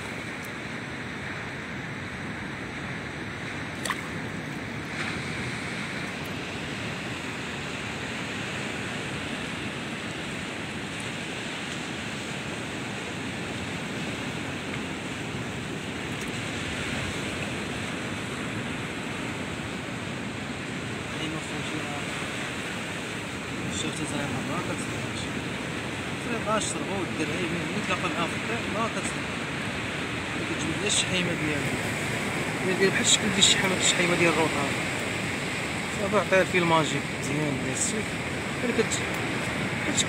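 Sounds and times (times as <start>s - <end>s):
sea surf rushing: 0.0s - 40.0s
wind: 0.0s - 40.0s.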